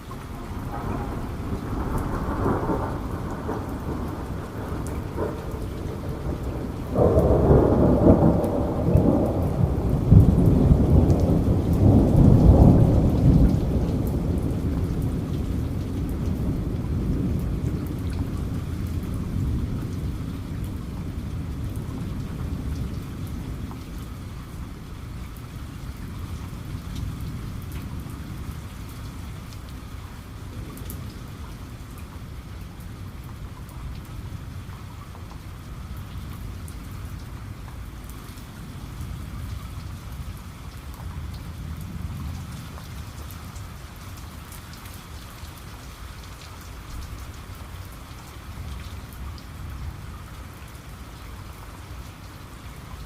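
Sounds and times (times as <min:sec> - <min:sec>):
low rumble of thunder: 0:00.0 - 0:53.0
steady rain: 0:00.0 - 0:53.0.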